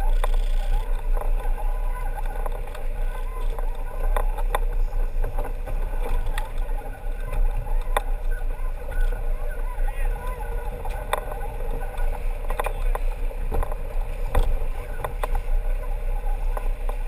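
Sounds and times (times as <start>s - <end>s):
boat engine rumbling: 0.0s - 17.0s
water rushing along hull: 0.0s - 17.0s.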